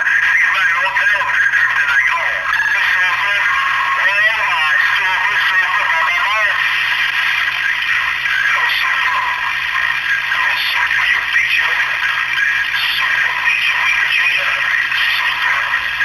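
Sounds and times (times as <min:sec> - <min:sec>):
garbled radio transmissions: 0:00.0 - 0:16.0
radio static hiss: 0:00.0 - 0:16.0.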